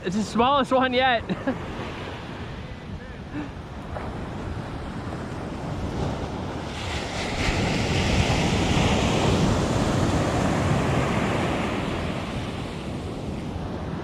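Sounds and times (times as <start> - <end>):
ocean surf breaking: 0.0 - 14.0
wind buffeting the microphone: 0.0 - 14.0.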